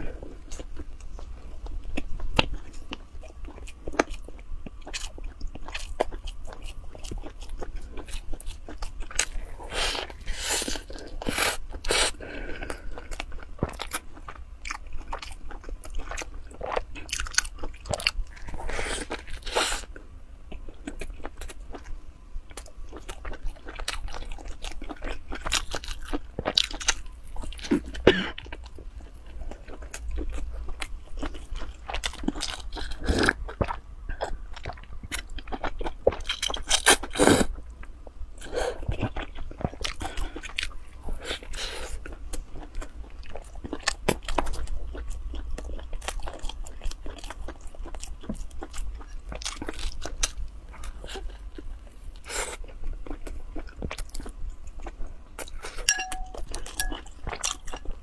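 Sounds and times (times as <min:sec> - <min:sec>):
crunchy biting and chewing: 0:00.4 - 0:58.0.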